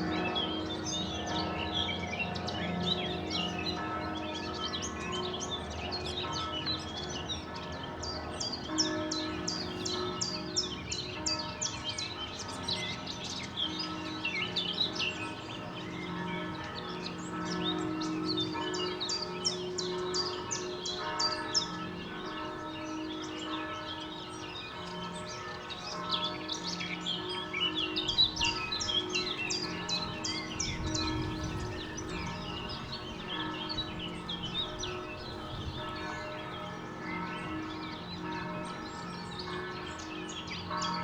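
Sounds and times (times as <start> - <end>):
distant church bells pealing: 0.0 - 41.0.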